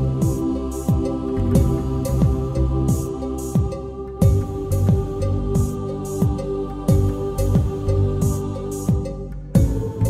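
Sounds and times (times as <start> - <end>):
deep drum beat: 0.0 - 10.0.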